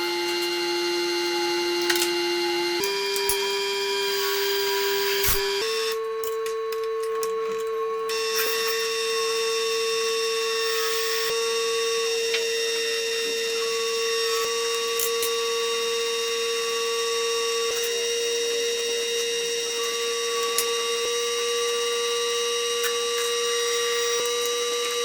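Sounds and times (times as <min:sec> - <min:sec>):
power tool motor whine: 0:00.0 - 0:25.0.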